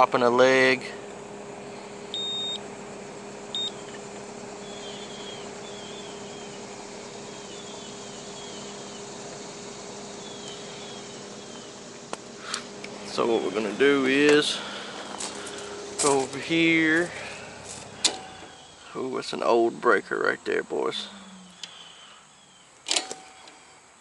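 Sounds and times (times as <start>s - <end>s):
condenser fan motor hum: 0.0s - 24.0s.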